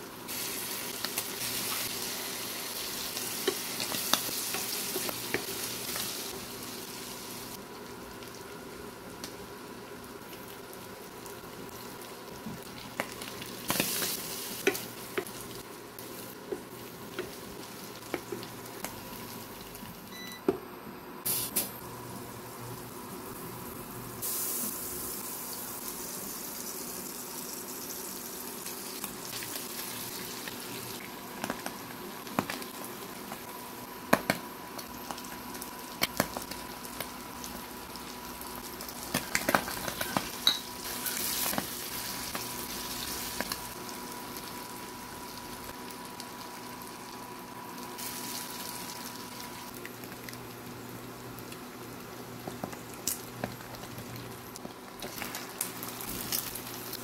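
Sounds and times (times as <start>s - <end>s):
food sizzling in a pan: 0.0s - 20.2s, 21.3s - 57.0s.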